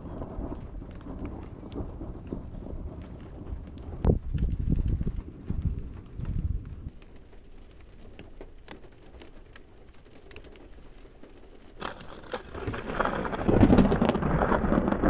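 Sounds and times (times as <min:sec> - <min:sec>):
raindrop ticks: 0:00.0 - 0:15.0
thunder rumble: 0:00.0 - 0:15.0.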